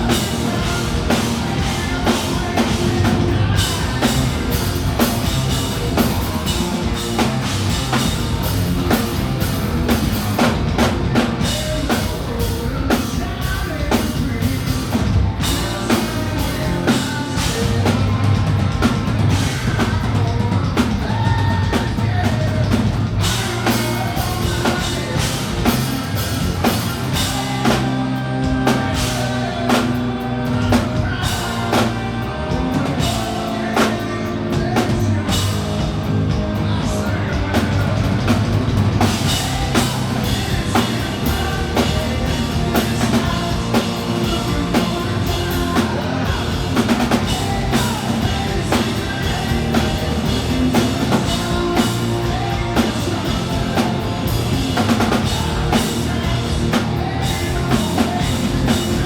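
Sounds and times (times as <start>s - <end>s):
person singing: 0.0s - 38.4s, 39.0s - 59.0s
live rock band playing: 0.0s - 59.0s.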